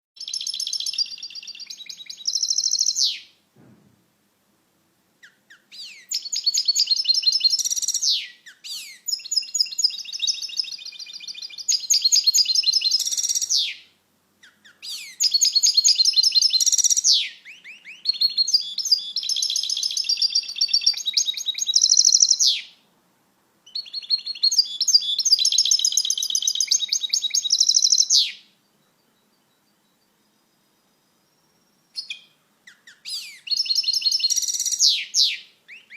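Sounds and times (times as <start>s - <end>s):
bird twittering song: 0.2s - 3.4s, 5.2s - 22.8s, 23.6s - 35.9s.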